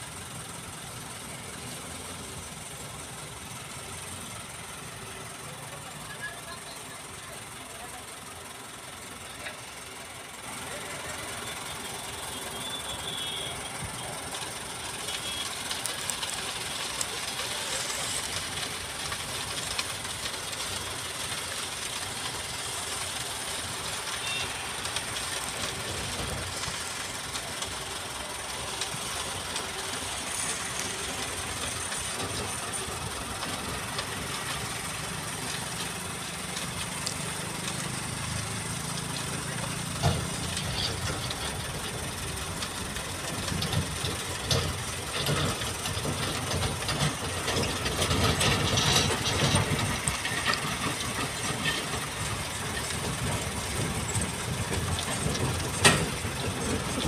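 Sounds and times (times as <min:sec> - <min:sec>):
diesel truck engine running: 0:00.0 - 0:57.0
steady hiss: 0:00.1 - 0:57.0.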